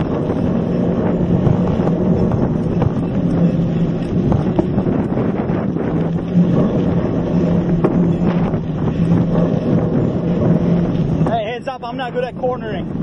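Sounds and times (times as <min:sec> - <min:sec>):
bike rattling over bumps: 0:00.0 - 0:13.0
bike rolling on dirt trail: 0:00.0 - 0:13.0
wind rushing over microphone: 0:00.0 - 0:13.0.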